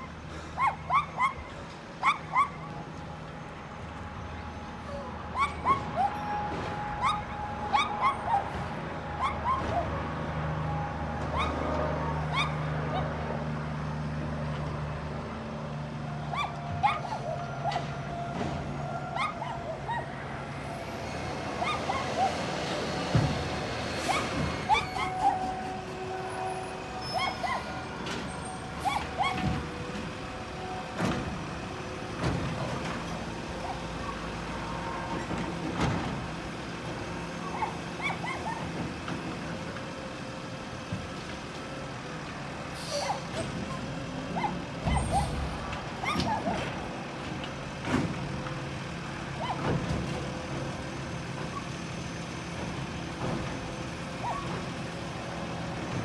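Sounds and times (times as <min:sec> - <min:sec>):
garbage truck engine running: 0:06.8 - 0:56.0.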